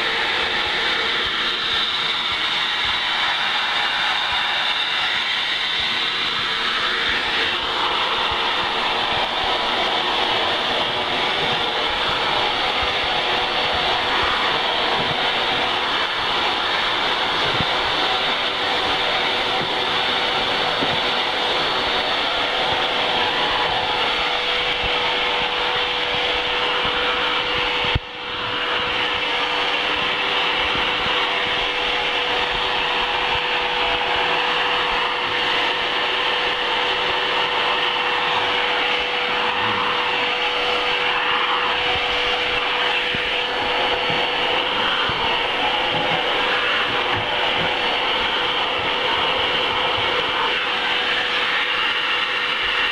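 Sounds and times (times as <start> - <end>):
floor nozzle pushed over floor: 0.0 - 52.9
vacuum cleaner running: 0.0 - 52.9.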